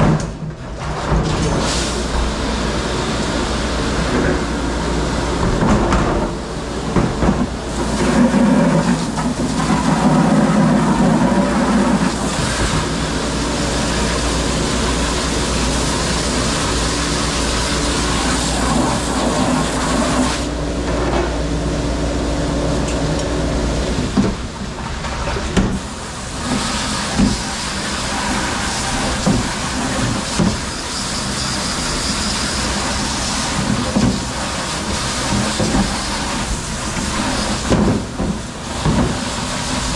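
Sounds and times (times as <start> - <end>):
dishwashing machinery drone: 0.0 - 39.9.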